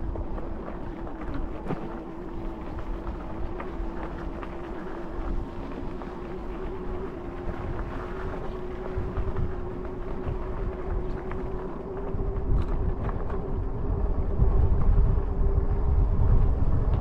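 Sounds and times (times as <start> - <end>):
tyres rumbling on dirt trail: 0.0 - 17.0
wind buffeting microphone: 0.0 - 17.0.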